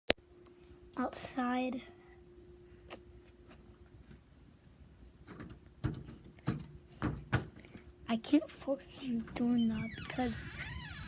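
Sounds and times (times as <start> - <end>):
faint steady hum: 0.1 - 11.0.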